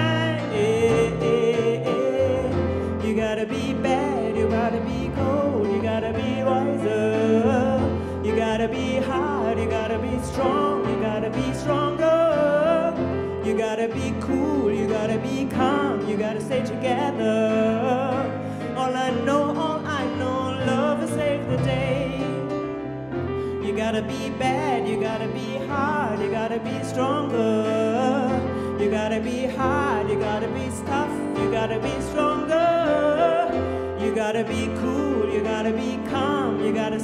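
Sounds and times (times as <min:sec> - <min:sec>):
woman singing: 0:00.0 - 0:22.6, 0:23.6 - 0:37.0
keyboard: 0:00.0 - 0:37.0.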